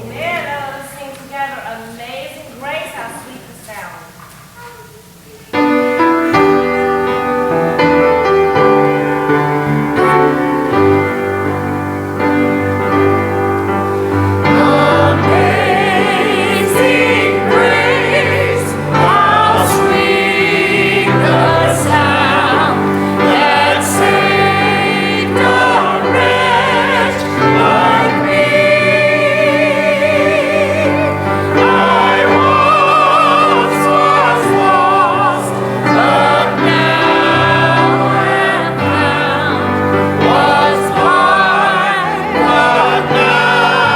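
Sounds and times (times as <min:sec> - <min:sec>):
piano accompaniment: 0:05.4 - 0:43.9
voices singing a hymn: 0:05.6 - 0:43.9.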